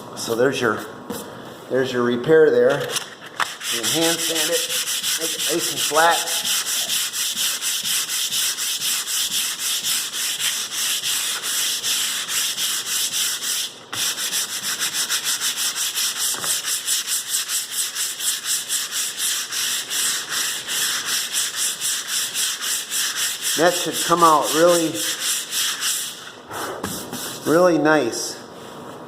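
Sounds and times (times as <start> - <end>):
sandpaper rubbing on wood floor: 3.4 - 27.6.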